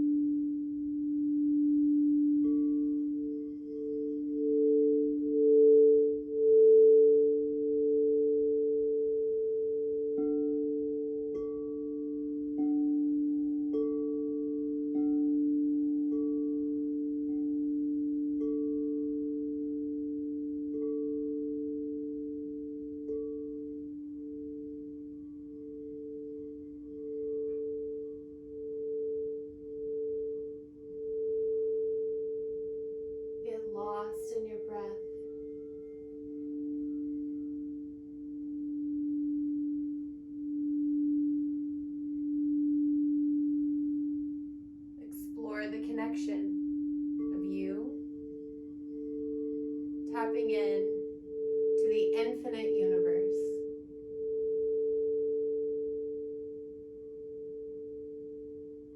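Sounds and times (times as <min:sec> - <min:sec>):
crystal singing bowls ringing: 0:00.0 - 0:58.9.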